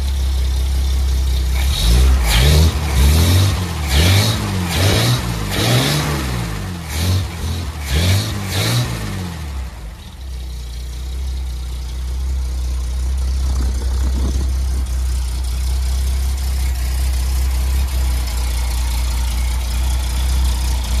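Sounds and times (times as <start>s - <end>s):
engine revving and idling: 0.0s - 21.0s.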